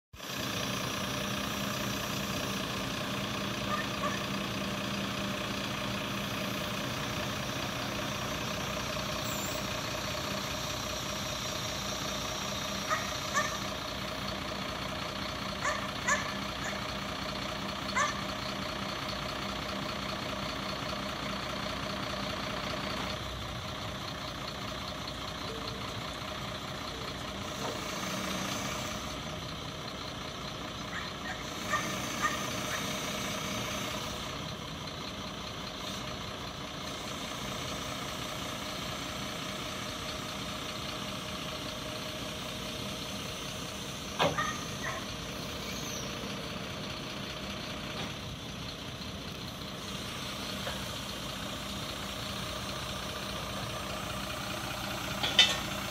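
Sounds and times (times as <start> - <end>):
diesel truck engine running: 0.1 - 55.9
sharp crane and load sounds: 0.2 - 55.9.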